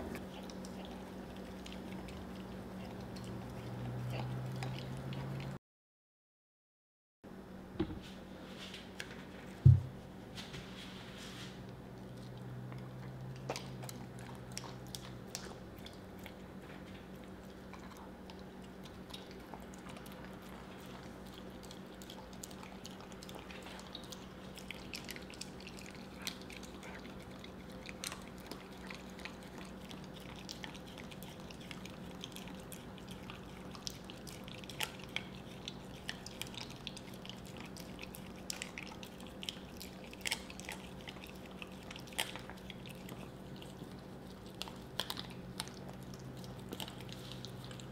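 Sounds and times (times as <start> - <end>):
dog licking and smacking: 0.0 - 5.6, 12.0 - 47.9.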